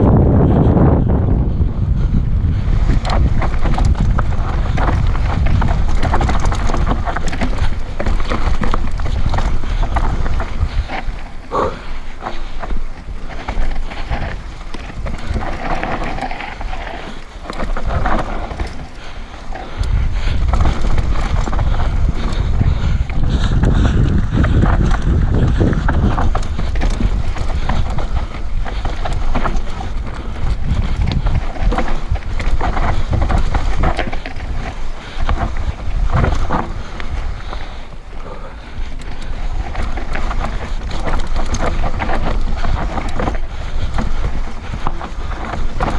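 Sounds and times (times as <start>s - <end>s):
wind buffeting microphone: 0.0s - 45.9s
bike clattering over bumps: 0.1s - 45.9s.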